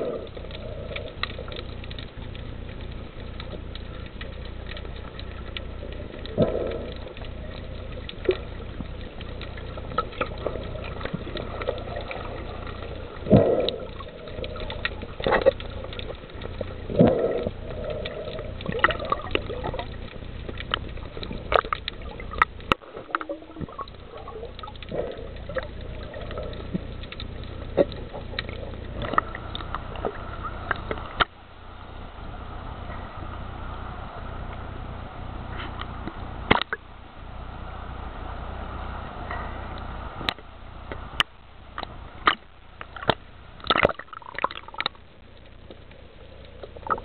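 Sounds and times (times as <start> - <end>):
steady low hum: 0.0 - 47.0
water gurgling and sloshing: 0.0 - 47.0
sharp clicks and pops: 0.2 - 31.4, 35.6 - 36.9, 39.8 - 47.0.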